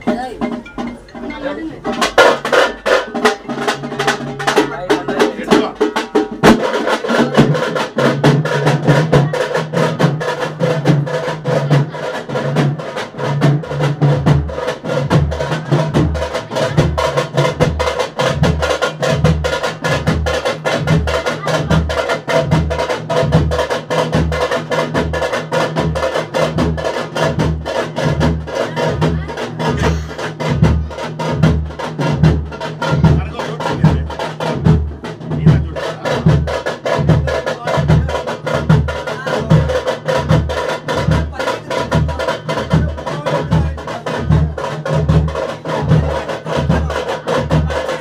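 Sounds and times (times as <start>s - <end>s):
deep bass beat: 0.0s - 48.0s
rapid drumming: 0.0s - 48.0s.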